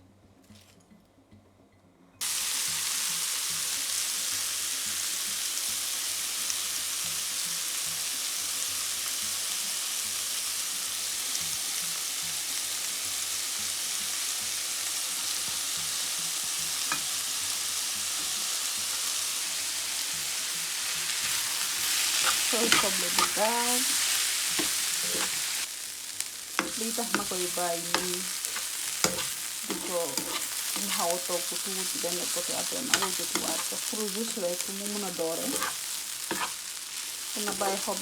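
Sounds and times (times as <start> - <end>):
onions sizzling in hot oil: 2.2 - 38.0.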